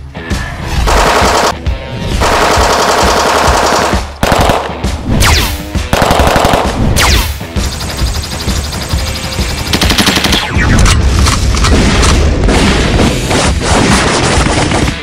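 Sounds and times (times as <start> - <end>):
blaster gunfire bursts: 2.2 - 15.0.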